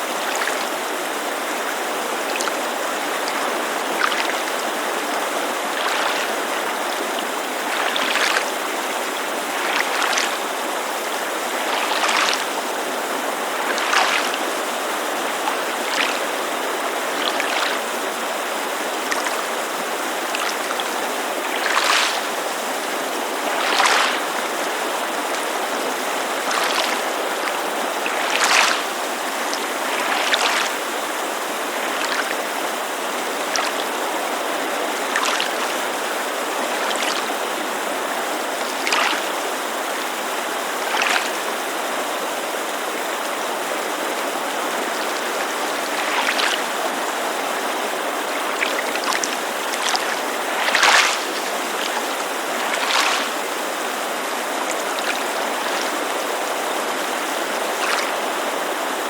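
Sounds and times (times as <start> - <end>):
creek rushing: 0.0 - 59.0
small waves lapping: 0.0 - 59.0
water splashing: 0.0 - 59.0.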